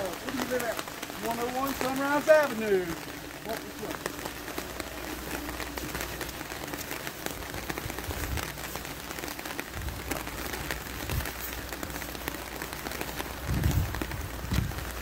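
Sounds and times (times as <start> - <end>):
crackling patter of ticks: 0.0 - 15.0.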